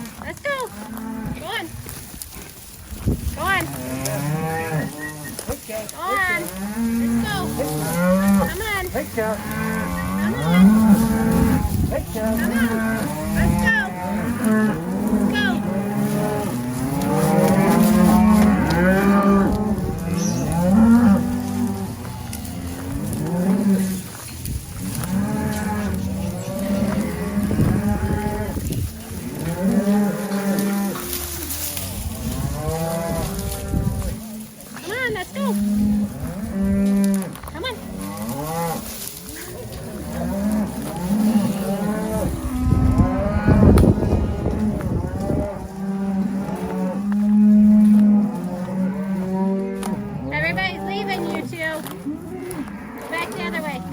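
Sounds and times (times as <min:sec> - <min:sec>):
cattle mooing: 0:00.0 - 0:01.8, 0:03.3 - 0:53.9.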